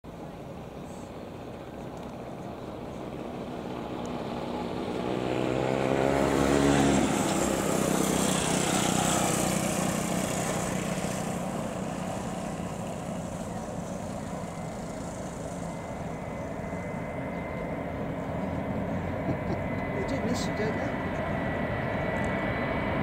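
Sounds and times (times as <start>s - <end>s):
engine hum: 0.0s - 23.0s
broad rushing noise: 0.1s - 22.1s.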